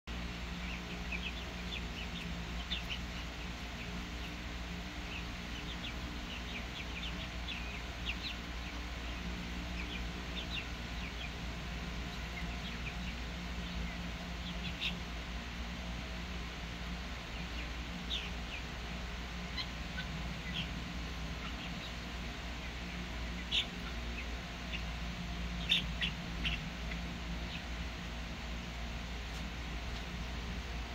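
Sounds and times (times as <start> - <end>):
chicks peeping: 0.1 - 30.9
steady low hum: 0.1 - 30.9.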